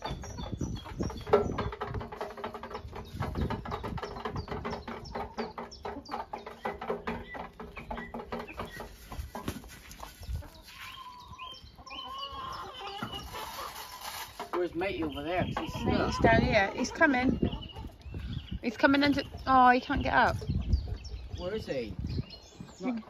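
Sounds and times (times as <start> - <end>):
chickens clucking: 0.0 - 23.0
chickens pecking: 0.0 - 23.0.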